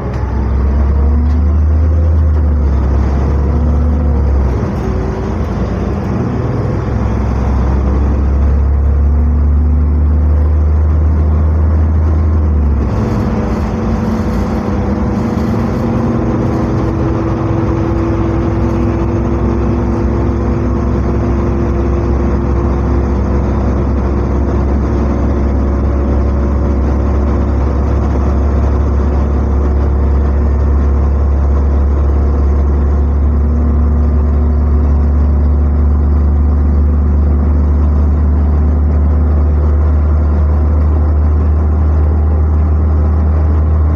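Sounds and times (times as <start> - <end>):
bus engine low hum: 0.0 - 43.9
drive and road noise: 0.0 - 43.9.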